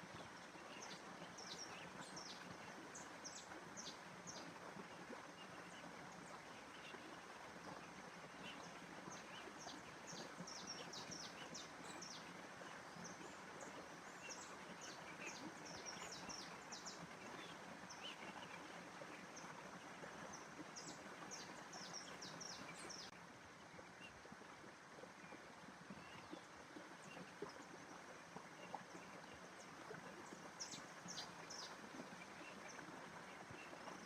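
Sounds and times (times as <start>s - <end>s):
faint outdoor hiss: 0.0s - 34.0s.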